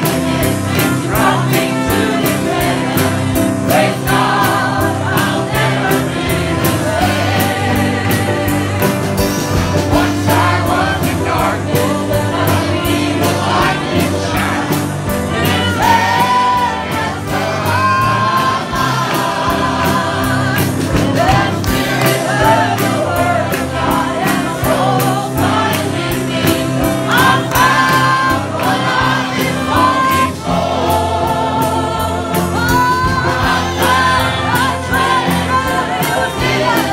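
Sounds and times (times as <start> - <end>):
group singing gospel song: 0.0 - 36.9.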